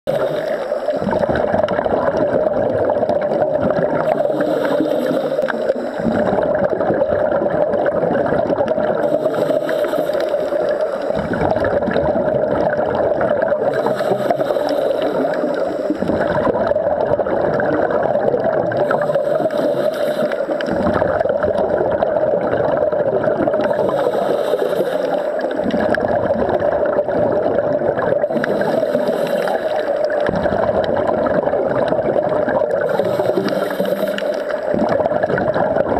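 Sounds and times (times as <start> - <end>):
steady watery hiss: 0.1 - 8.0, 8.7 - 11.9, 12.5 - 27.0, 28.0 - 35.9
exhaled bubbles gurgling underwater: 0.1 - 35.9.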